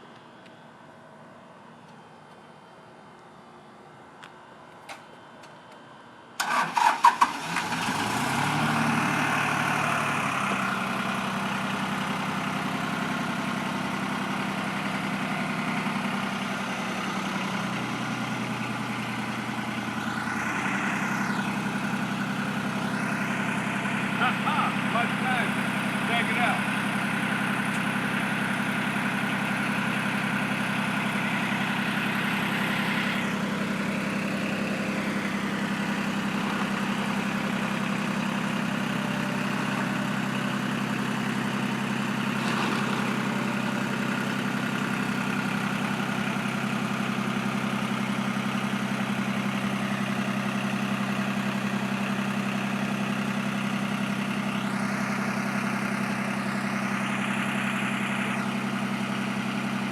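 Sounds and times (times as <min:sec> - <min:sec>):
tractor engine idling: 0:06.4 - 0:59.9.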